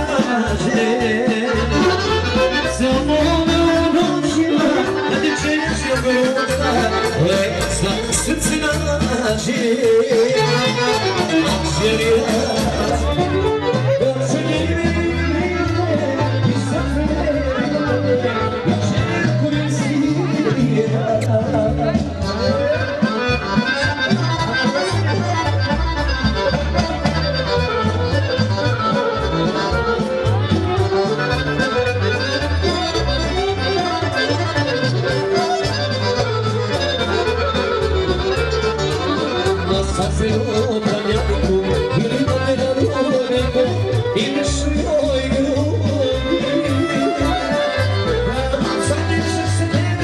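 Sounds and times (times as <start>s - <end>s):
accordion playing a tune: 0.0s - 50.0s.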